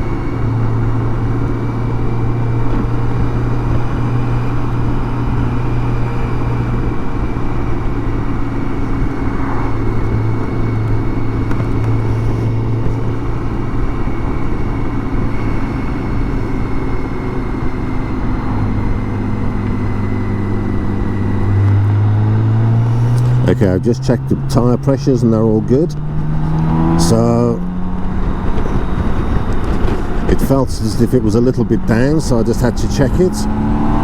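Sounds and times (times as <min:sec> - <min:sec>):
faint high whine: 0:00.0 - 0:34.0
motorcycle engine cruising: 0:00.0 - 0:34.0
wind and road noise: 0:00.0 - 0:34.0.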